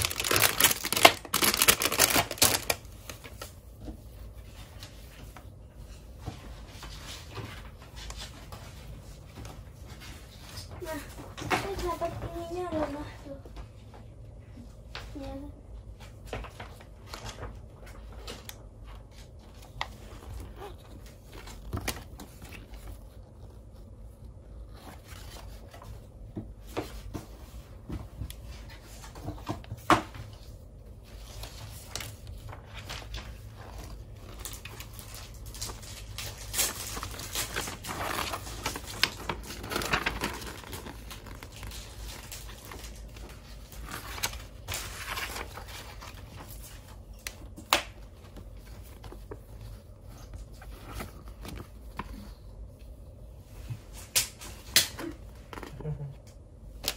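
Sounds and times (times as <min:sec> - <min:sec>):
plastic bags and paper crinkling: 0:00.0 - 0:13.9, 0:14.9 - 0:56.9.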